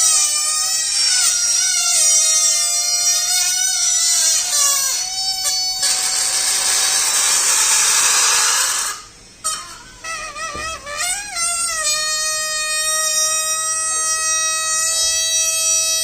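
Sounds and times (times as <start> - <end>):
air hissing out of balloon: 0.0 - 16.0
balloon neck squealing: 0.0 - 16.0.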